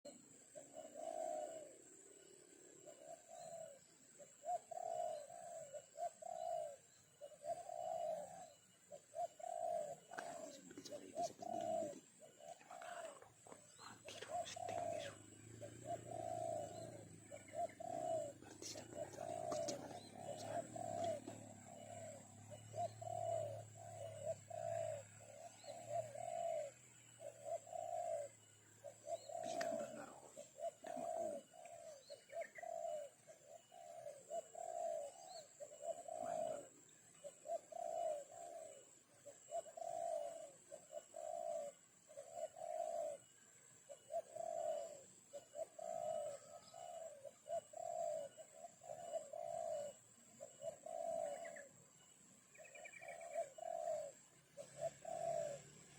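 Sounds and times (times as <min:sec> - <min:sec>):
bird cooing: 0:00.0 - 0:55.9.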